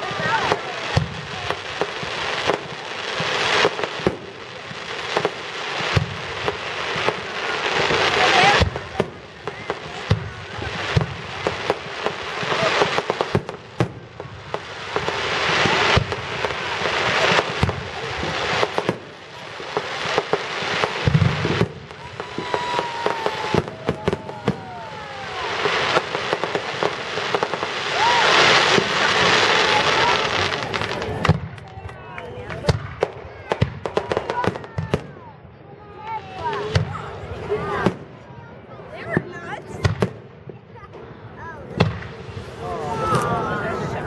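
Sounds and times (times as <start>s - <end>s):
crackling hiss of fireworks: 0.0s - 44.0s.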